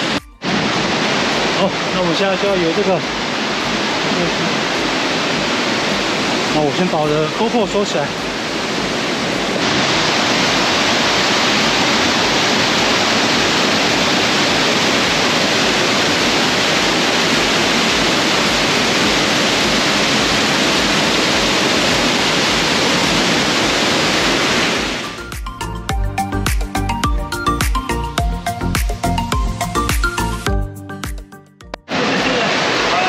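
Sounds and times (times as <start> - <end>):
rushing water from a waterfall: 0.0 - 25.5, 31.9 - 33.0.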